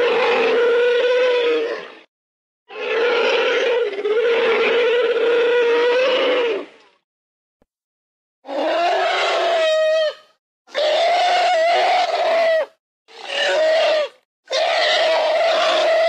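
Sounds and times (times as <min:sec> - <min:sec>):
harsh animal calls: 0:00.0 - 0:02.1, 0:02.7 - 0:06.8, 0:08.4 - 0:16.0.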